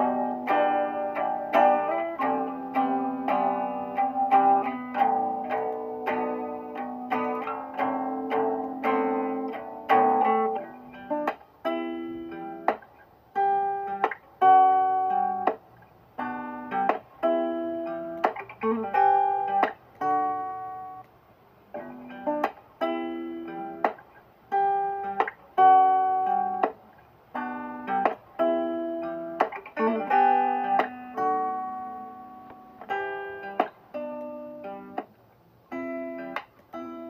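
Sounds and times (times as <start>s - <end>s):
guitar plucking and strumming: 0.0s - 37.0s.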